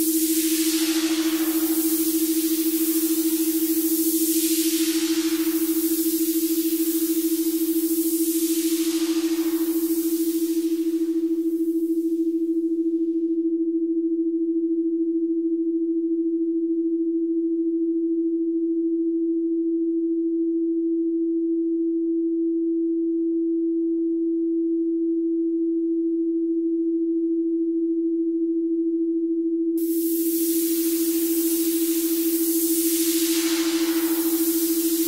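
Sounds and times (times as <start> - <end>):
low electronic sine tone: 0.0 - 35.0.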